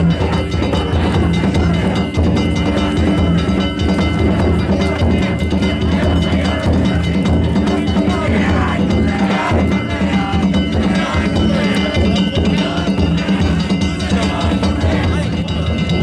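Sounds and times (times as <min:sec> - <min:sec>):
taiko drum beating: 0:00.0 - 0:16.0.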